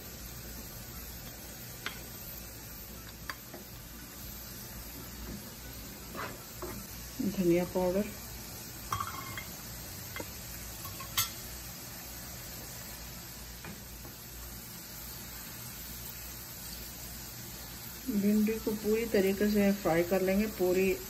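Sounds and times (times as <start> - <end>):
okra sizzling in oil: 0.0 - 21.0.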